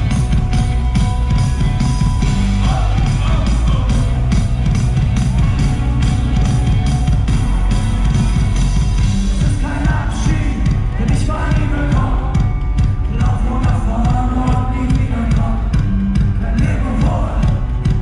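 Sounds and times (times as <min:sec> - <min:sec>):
hip-hop music with heavy bass: 0:00.0 - 0:18.0
melodic line or voice: 0:00.0 - 0:18.0.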